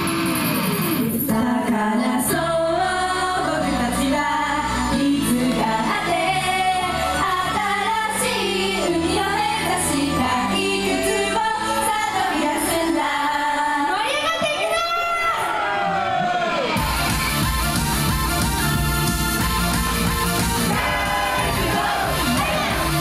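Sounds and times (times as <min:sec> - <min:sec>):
pop song over sound system: 0:00.0 - 0:15.2, 0:16.6 - 0:23.0.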